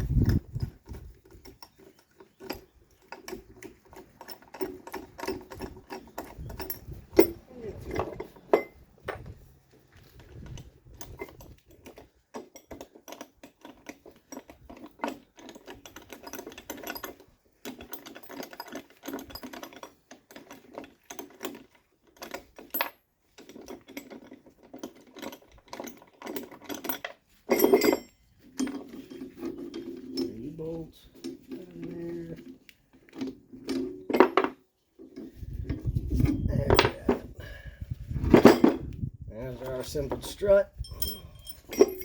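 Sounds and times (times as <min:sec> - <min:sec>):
metallic clatter: 0:00.0 - 0:37.3, 0:39.6 - 0:42.0.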